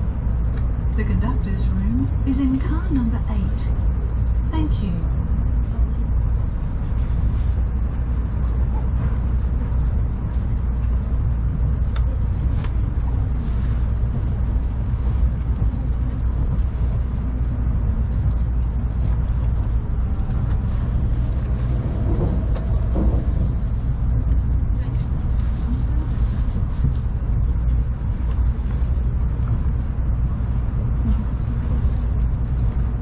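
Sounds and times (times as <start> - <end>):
train interior rumble: 0.0 - 33.0.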